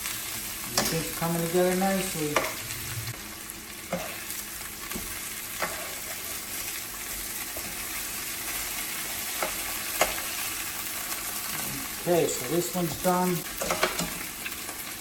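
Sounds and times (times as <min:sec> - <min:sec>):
chicken sizzling in a frying pan: 0:00.0 - 0:15.0.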